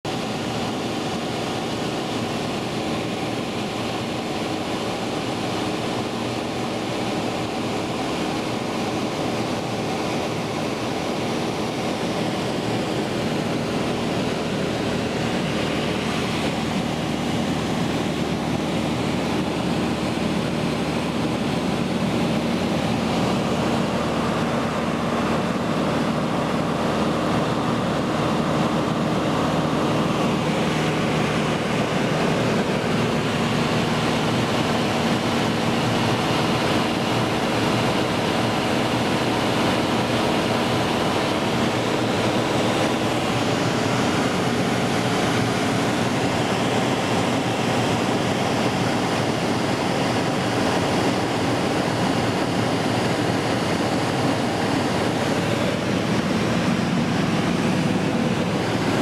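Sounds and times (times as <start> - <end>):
piston aircraft engine drone: 0.0 - 59.0.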